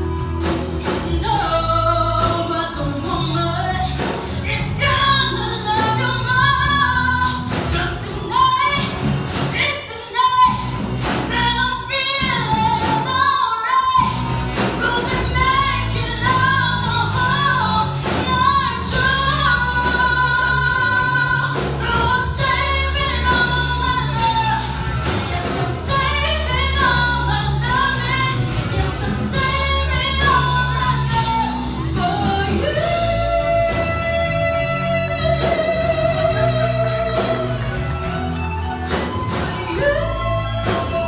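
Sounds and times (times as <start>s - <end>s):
backing music: 0.0s - 41.0s
woman singing into microphone: 0.8s - 37.8s, 39.2s - 41.0s.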